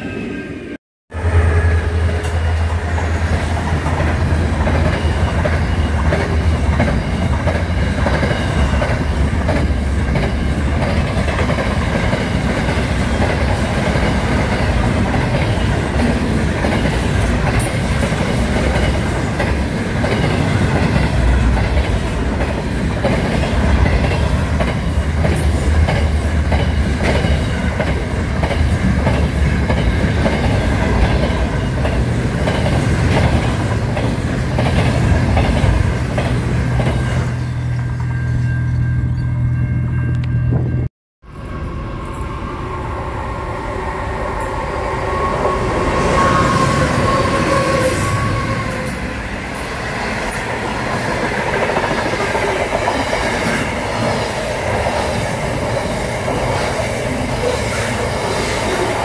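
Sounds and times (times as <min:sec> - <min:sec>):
freight train rumble: 0:00.0 - 0:59.0.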